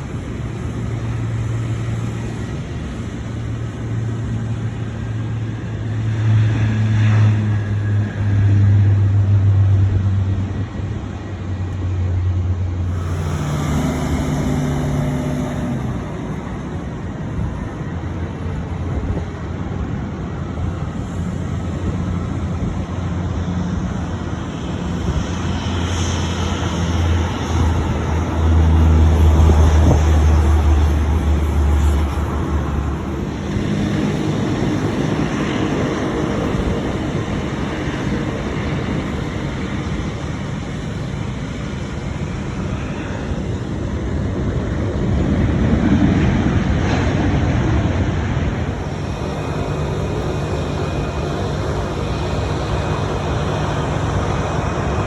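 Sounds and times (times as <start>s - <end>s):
jet engine rumble: 0.0s - 55.0s
road traffic: 0.0s - 55.0s.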